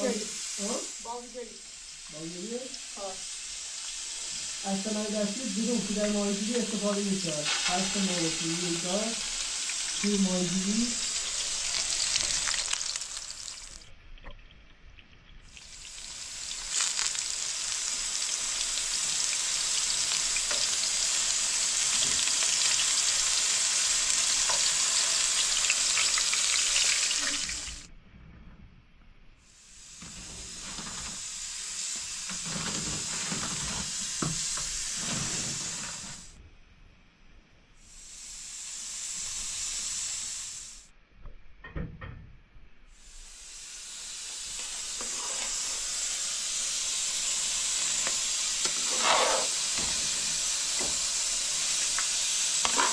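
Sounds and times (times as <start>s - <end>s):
food sizzling in hot fat: 0.0s - 27.9s, 29.4s - 36.4s, 37.8s - 40.9s, 42.9s - 52.9s.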